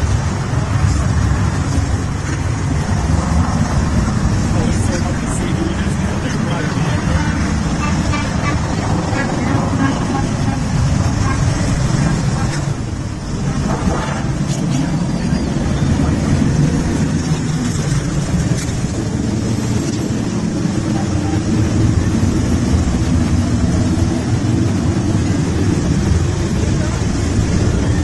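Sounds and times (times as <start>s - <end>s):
motorcycle engines running: 0.0s - 28.0s.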